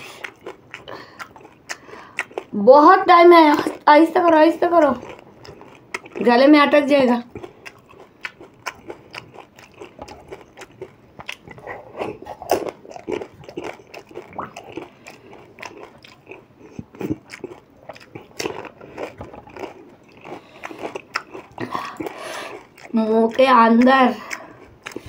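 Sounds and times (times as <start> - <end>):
crunching and chewing food: 0.0 - 25.0.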